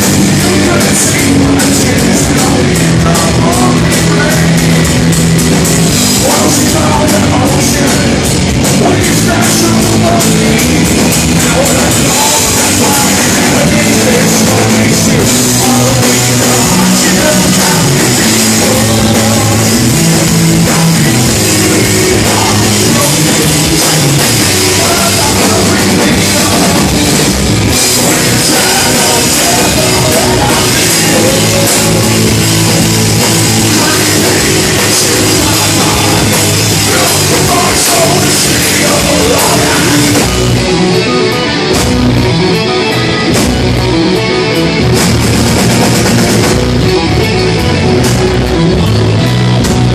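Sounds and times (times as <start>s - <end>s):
person singing: 0.0s - 4.9s, 6.0s - 41.6s
distorted guitars: 0.0s - 49.9s
drums: 0.0s - 49.9s.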